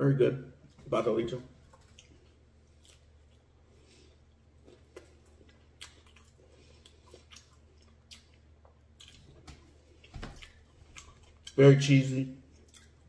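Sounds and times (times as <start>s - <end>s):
person chewing: 1.6s - 11.6s, 12.4s - 13.0s.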